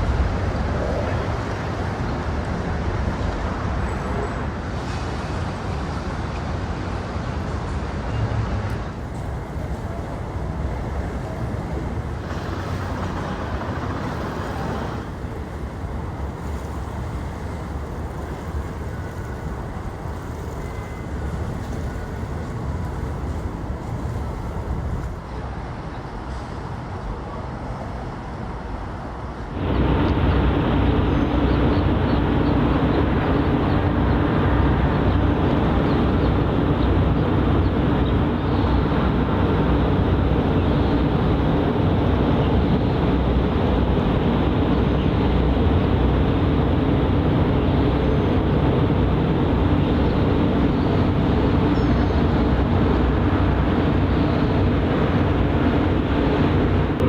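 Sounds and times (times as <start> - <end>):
harbour rumble: 0.0 - 25.2, 29.5 - 57.0.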